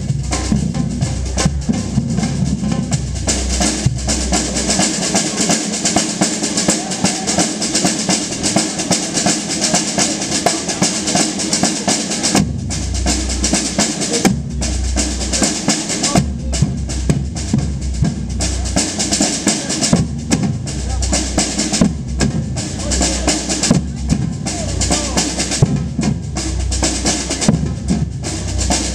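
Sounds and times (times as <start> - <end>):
deep bass drums: 0.0 - 11.6, 12.2 - 28.9
samba percussion group: 0.0 - 28.9.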